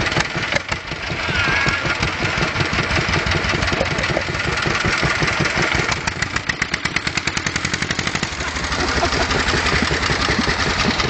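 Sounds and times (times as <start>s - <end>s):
stationary engine running: 0.0s - 11.0s.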